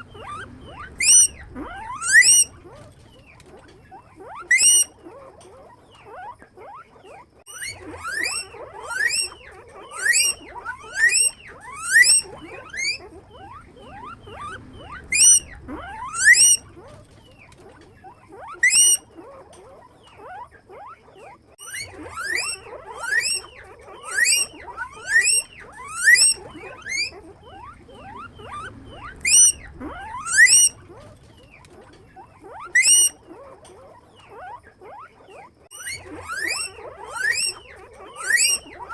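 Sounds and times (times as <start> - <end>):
guinea pigs wheeking: 0.0 - 38.9
soft squeaks: 0.0 - 38.9.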